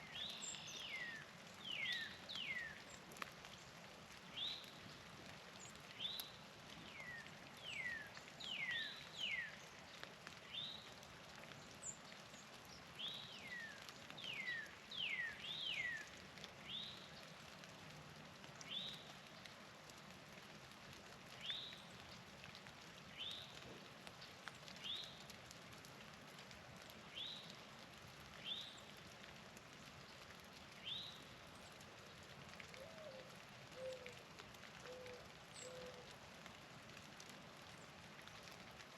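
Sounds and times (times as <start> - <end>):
steady outdoor hiss: 0.0 - 38.9.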